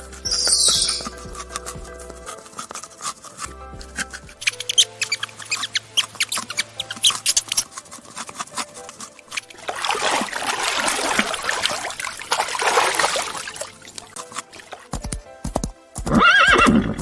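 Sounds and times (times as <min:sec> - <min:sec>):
water splashing and trickling: 0:00.0 - 0:15.2.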